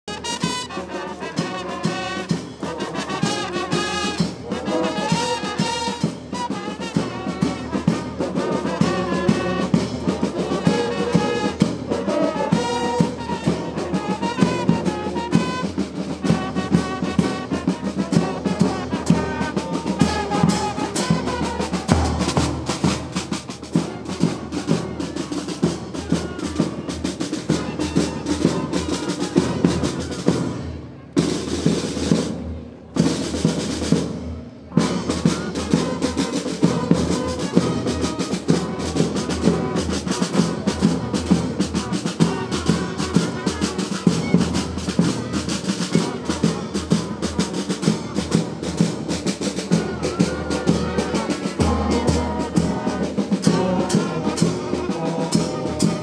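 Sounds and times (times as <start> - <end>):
brass band playing march: 0.0 - 56.0
drums keeping steady beat: 0.1 - 56.0.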